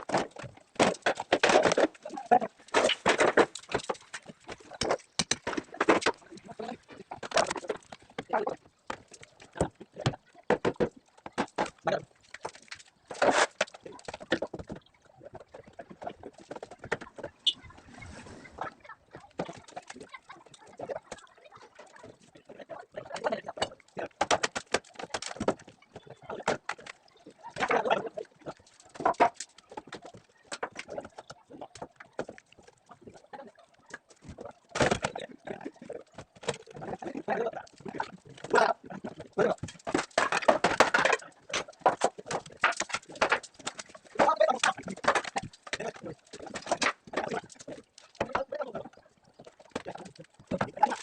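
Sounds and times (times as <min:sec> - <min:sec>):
planks and props banging: 0:00.0 - 0:22.4, 0:23.0 - 0:33.2, 0:33.9 - 0:51.0.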